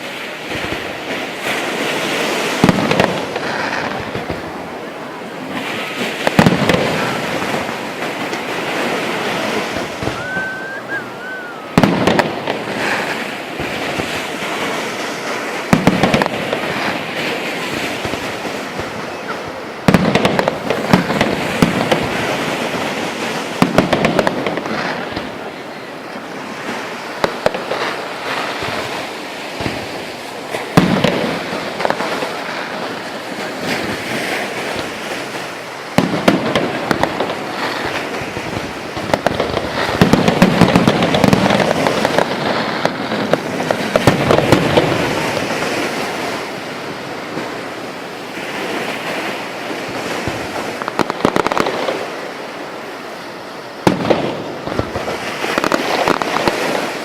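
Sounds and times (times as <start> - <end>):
fireworks bursting with bangs: 0.0 - 57.0
fireworks crackling: 0.0 - 57.0.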